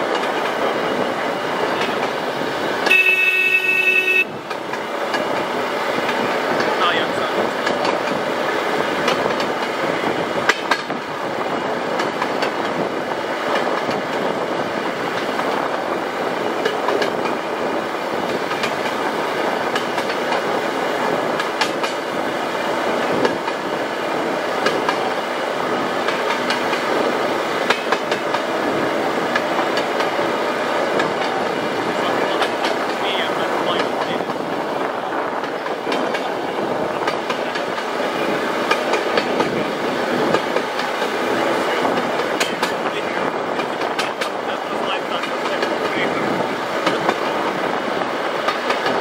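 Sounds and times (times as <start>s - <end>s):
railway motor car rumbling on track: 0.0s - 49.0s
wheels clicking over rail joints: 0.0s - 49.0s.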